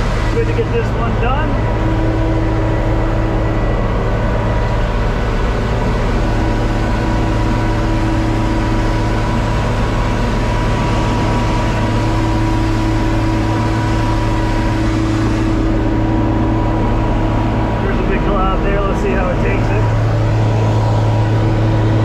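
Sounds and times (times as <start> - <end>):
tractor diesel engine droning: 0.0 - 22.0.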